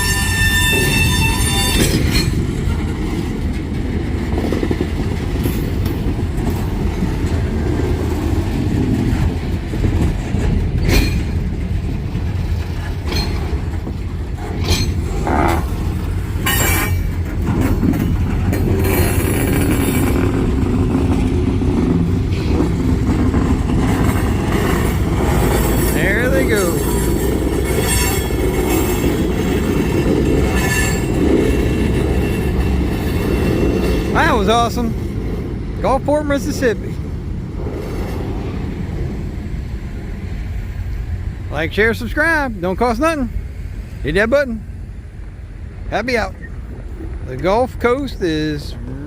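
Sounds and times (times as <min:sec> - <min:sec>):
train wheels and couplers clanking: 0:00.0 - 0:48.8
freight train rumbling by: 0:00.0 - 0:49.0.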